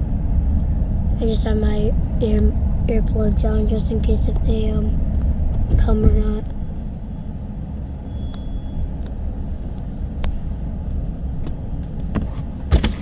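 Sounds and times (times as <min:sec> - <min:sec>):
low rumble inside car: 0:00.0 - 0:13.0.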